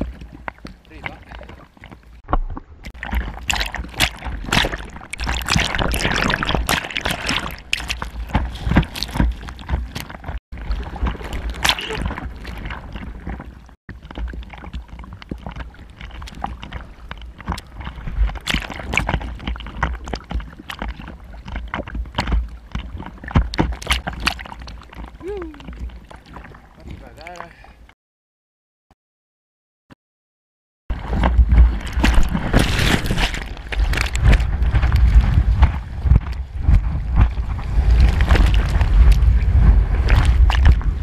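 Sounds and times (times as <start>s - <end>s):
seawater splashing and sloshing: 0.0s - 27.9s, 30.9s - 41.0s.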